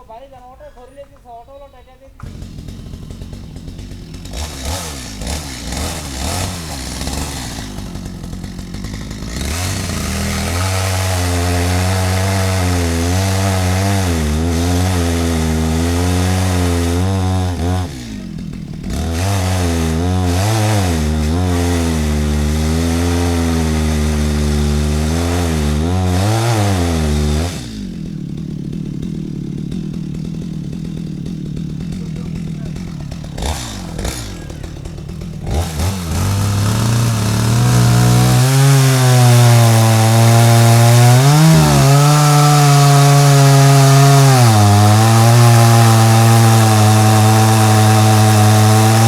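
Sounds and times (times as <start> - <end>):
chainsaw revving and cutting wood: 0.0 - 49.0.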